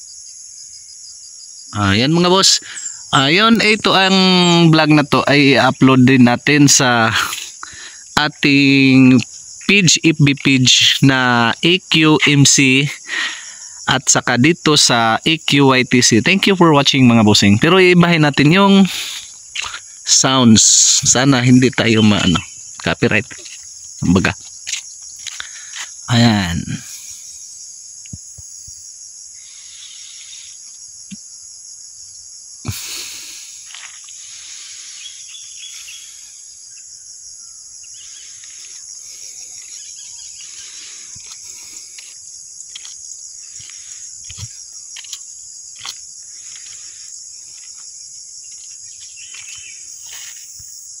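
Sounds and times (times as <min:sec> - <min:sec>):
insects trilling: 0:00.0 - 0:51.0.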